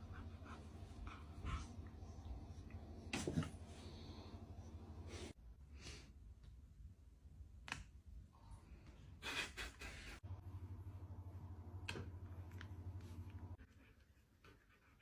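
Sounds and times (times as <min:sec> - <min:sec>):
low steady hum: 0:00.0 - 0:09.2, 0:10.2 - 0:14.7.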